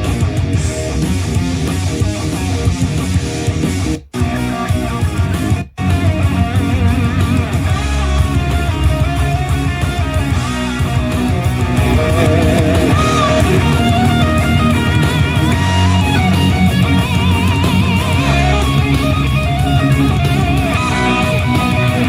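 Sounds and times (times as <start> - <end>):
rock music through speaker: 0.0 - 22.0.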